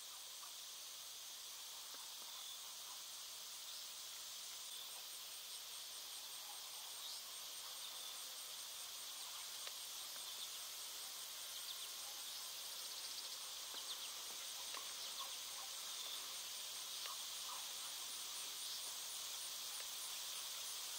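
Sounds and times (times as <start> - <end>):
crickets and insects chorus: 0.0 - 20.9
thin constant whine: 0.0 - 20.9.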